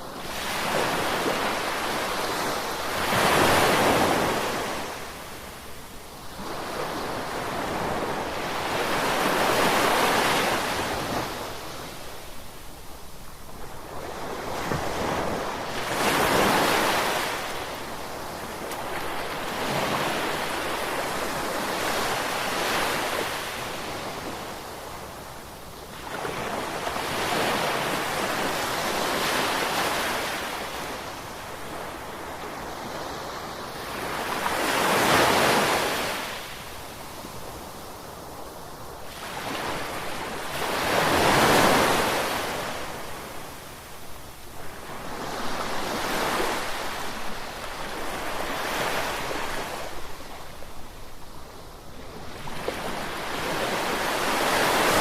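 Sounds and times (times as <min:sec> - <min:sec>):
ocean waves washing onto shore: 0:00.0 - 0:55.0.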